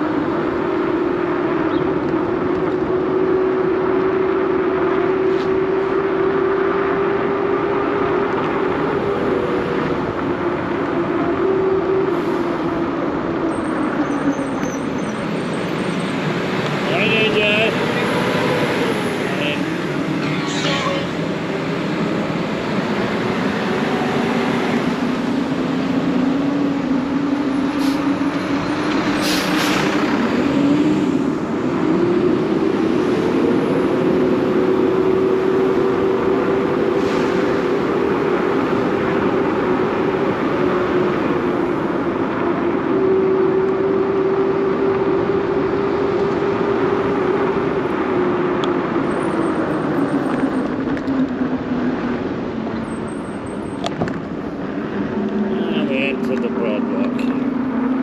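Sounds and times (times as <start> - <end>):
wind and rolling noise: 0.0 - 58.0.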